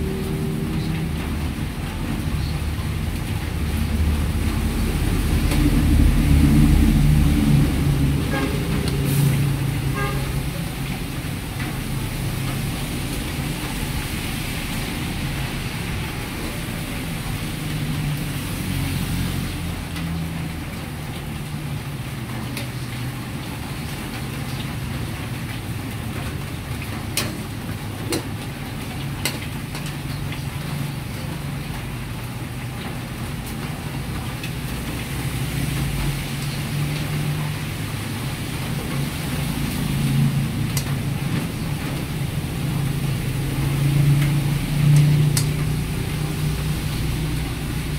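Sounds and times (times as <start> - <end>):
gas burners and fans roaring: 0.0 - 47.9.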